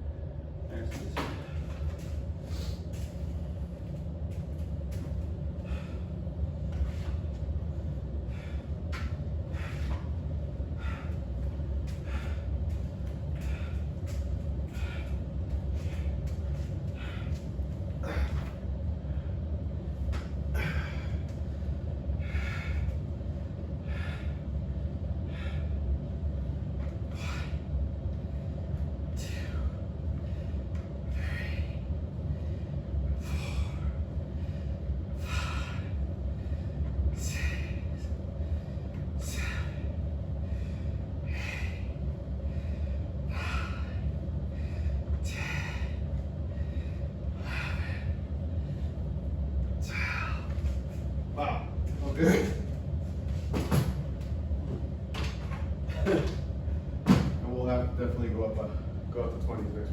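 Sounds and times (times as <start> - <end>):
man breathing hard: 1.2 - 52.8.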